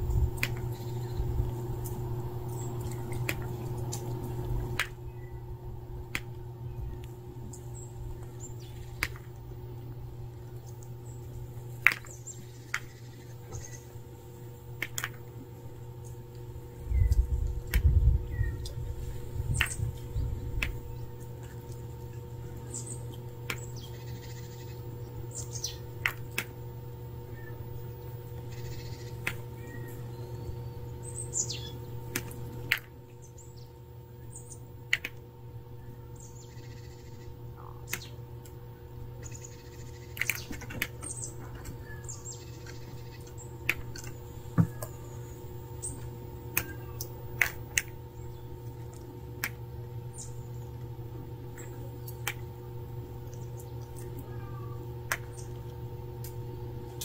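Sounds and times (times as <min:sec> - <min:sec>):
small birds chirping: 0:00.0 - 0:57.0
steady low hum: 0:00.0 - 0:57.0.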